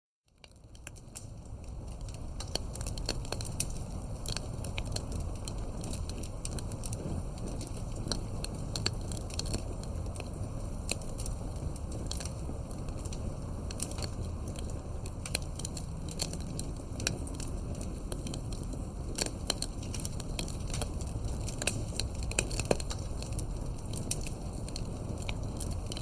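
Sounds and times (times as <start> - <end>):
campfire crackling: 0.3 - 26.0
wood popping and snapping: 0.5 - 26.0.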